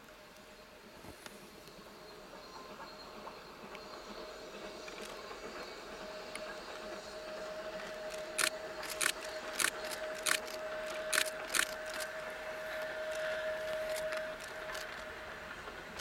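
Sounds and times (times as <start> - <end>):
steam locomotive exhaust beats: 0.4 - 16.0.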